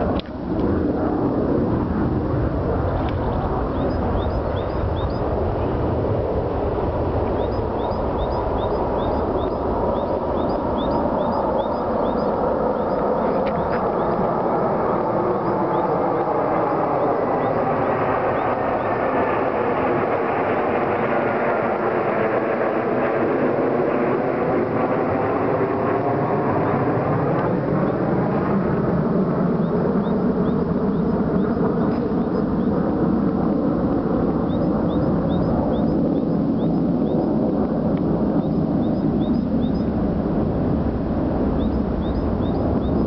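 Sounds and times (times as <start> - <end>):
jet fighters roaring overhead: 0.0 - 43.0.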